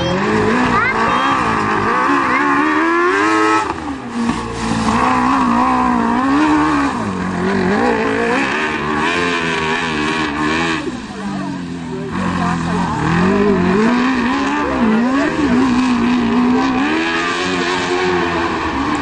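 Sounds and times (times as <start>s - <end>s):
three-wheeler engine revving: 0.0s - 19.0s.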